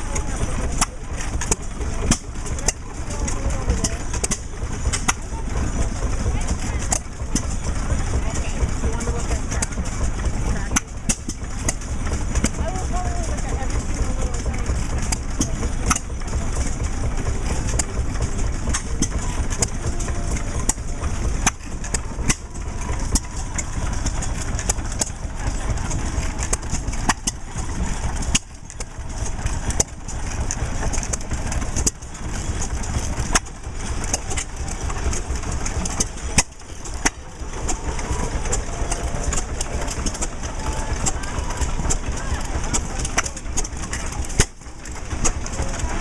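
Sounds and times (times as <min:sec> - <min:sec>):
low engine rumble: 0:00.0 - 0:46.0
stationary gas engines exhaust pops: 0:00.0 - 0:46.0.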